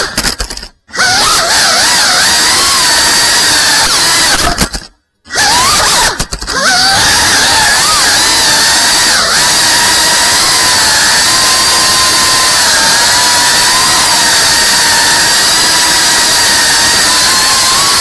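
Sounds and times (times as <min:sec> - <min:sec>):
drone motors whining: 0:00.9 - 0:18.0.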